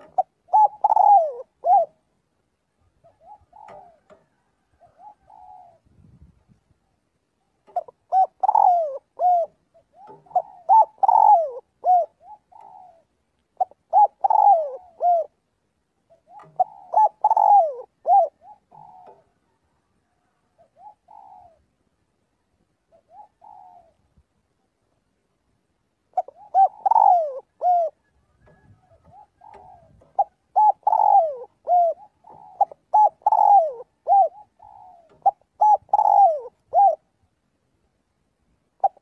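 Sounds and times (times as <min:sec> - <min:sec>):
dove cooing: 0:00.0 - 0:06.1, 0:06.8 - 0:21.8, 0:22.8 - 0:24.1, 0:26.1 - 0:37.3, 0:38.8 - 0:39.0.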